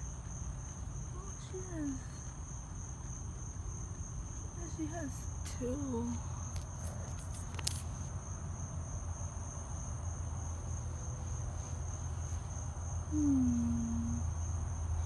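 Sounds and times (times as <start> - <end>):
constant low rumble: 0.0 - 15.0
crickets chirring: 0.0 - 15.0.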